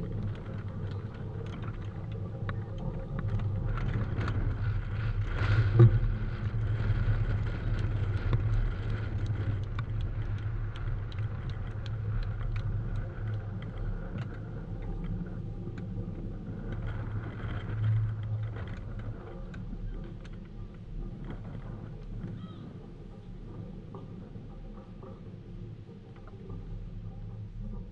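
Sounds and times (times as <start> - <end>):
low outdoor rumble: 0.0 - 27.9.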